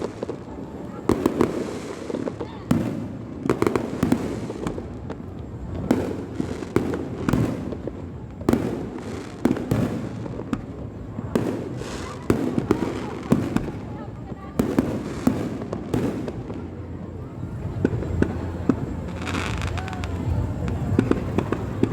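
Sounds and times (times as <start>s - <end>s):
fireworks booming bursts: 0.0s - 21.9s
fireworks rumble and crackle: 0.0s - 21.9s.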